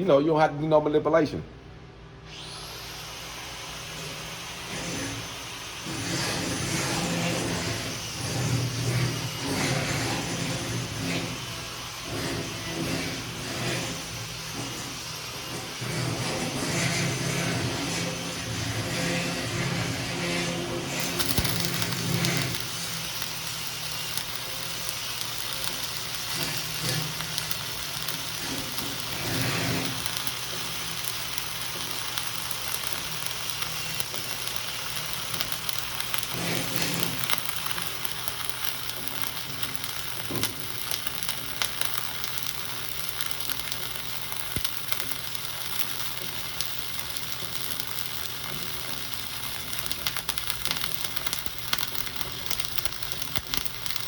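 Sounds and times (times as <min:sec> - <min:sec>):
arc welding crackling sizzle: 0:02.3 - 0:54.0.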